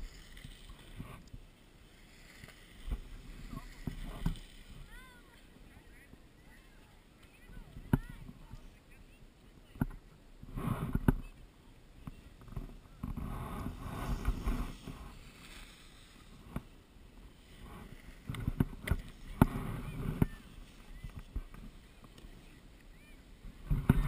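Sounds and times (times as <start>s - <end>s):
snowboard scraping over snow: 0.0s - 8.7s, 12.1s - 24.0s.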